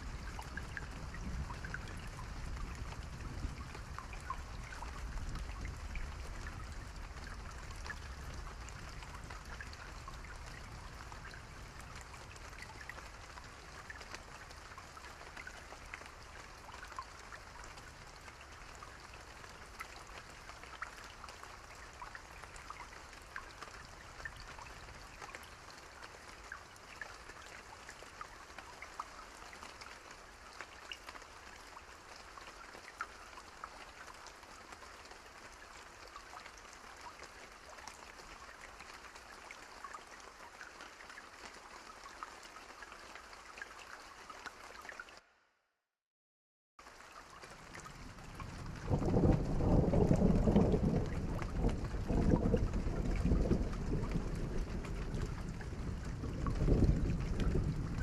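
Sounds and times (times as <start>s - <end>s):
rain drops ticking: 0.0s - 45.2s, 46.8s - 58.0s.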